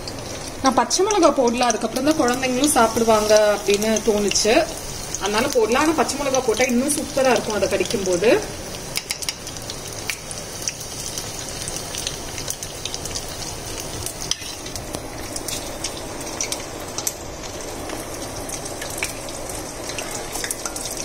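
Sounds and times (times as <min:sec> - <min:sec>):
deep-frying sizzle with pops: 0:00.0 - 0:21.0.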